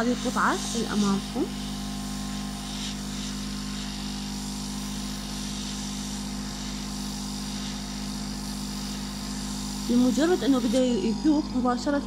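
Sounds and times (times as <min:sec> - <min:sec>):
hot-air gun fan humming: 0:00.0 - 0:12.0.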